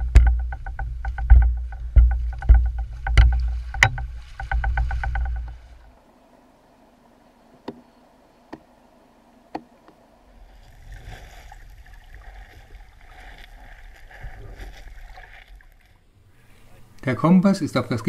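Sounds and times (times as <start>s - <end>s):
muffled water sloshing: 0.0s - 6.1s, 7.6s - 16.6s.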